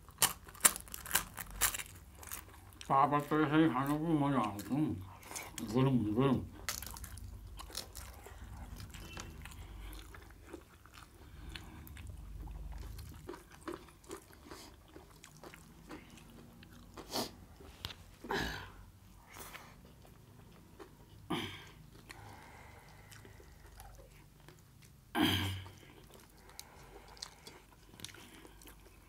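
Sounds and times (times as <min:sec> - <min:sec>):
people chewing and crunching: 0:00.0 - 0:29.0.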